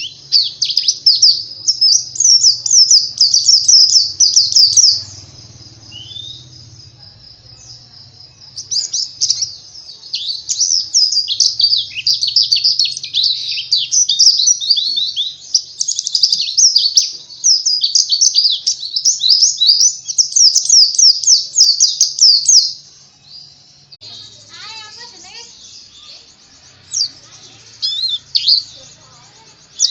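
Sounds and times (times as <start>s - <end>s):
bird twittering song: 0.0s - 29.9s.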